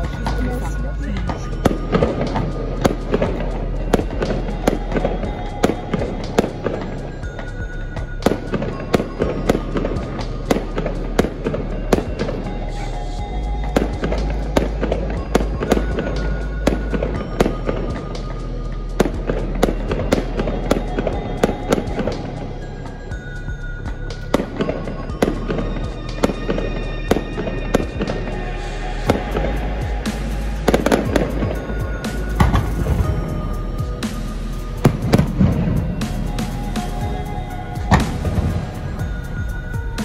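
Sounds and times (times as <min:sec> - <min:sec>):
background music: 0:00.0 - 0:40.0
fireworks bangs and crackles: 0:00.0 - 0:40.0.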